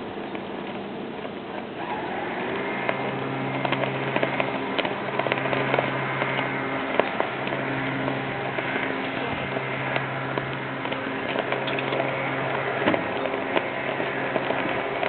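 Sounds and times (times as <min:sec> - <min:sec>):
low machine hum: 0:00.0 - 0:15.0
noisy background: 0:00.0 - 0:15.0.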